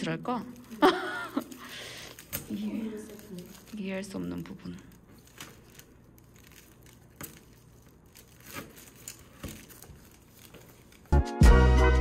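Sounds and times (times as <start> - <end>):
plastic film crinkling: 0.0 - 11.5.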